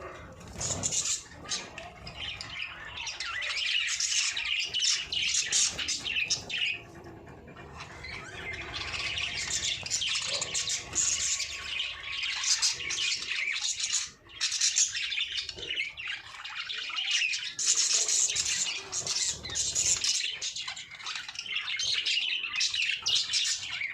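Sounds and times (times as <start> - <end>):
budgerigars chattering: 0.0 - 23.9.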